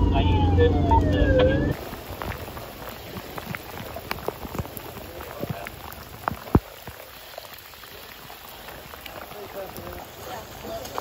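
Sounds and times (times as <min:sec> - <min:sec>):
rain falling: 0:00.8 - 0:11.0
raindrops tapping: 0:01.7 - 0:11.0.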